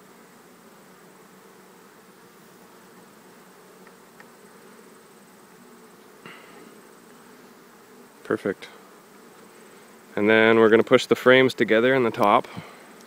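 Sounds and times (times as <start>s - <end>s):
bees humming: 0.0s - 13.0s.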